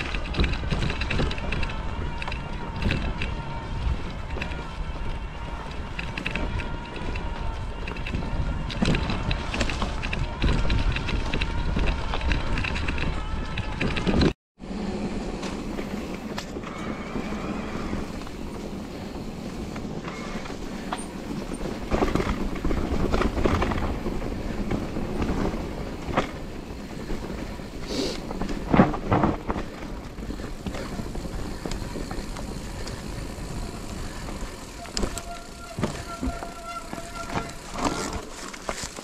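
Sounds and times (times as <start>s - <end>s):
bike rattling and knocking: 0.0s - 39.0s
bike tyres rolling through leaves: 0.0s - 39.0s.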